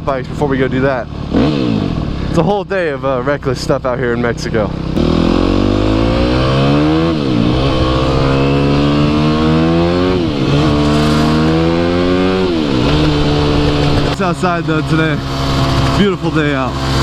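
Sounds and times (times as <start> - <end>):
dirt bike engine accelerating: 0.4 - 2.3, 4.7 - 17.0.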